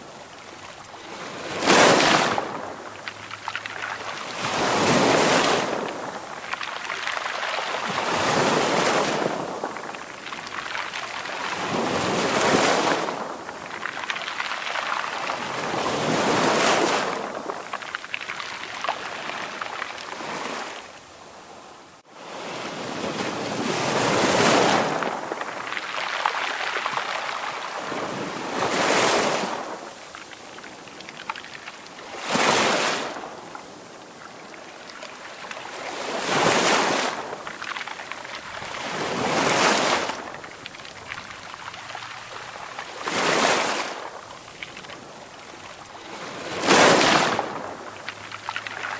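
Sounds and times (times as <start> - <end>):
sea waves breaking: 0.0 - 21.6, 22.2 - 48.9.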